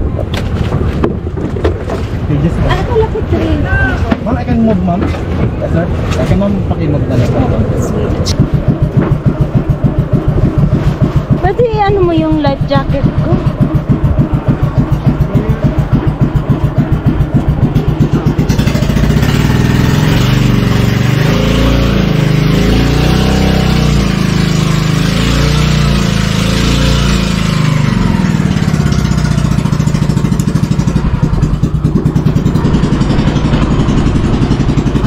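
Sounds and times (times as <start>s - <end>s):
boat engine throbbing: 0.0s - 35.0s.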